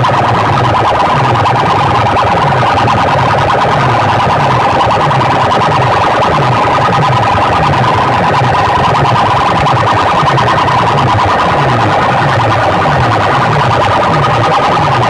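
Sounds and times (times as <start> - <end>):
heavily distorted loud music: 0.0 - 15.0
siren-like tone: 0.0 - 15.0.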